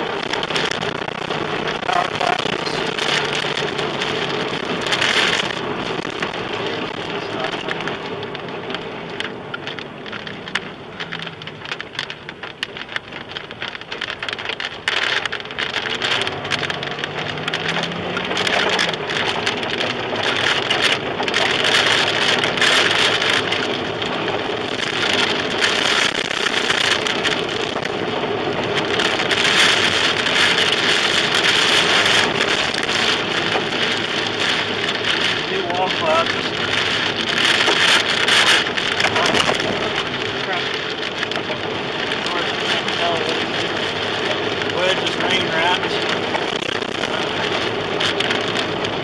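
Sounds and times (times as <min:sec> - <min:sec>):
heavy rain on car roof: 0:00.0 - 0:49.0.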